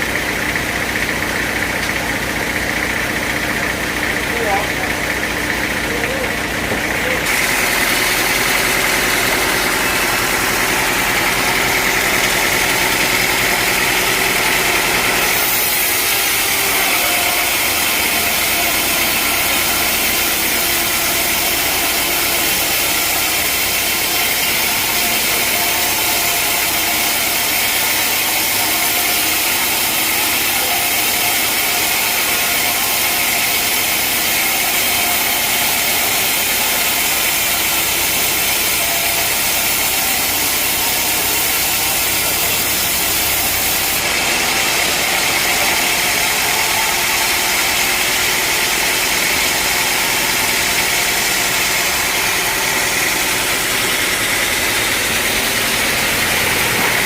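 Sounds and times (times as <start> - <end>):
sawmill engine hum: 0.0 - 57.0.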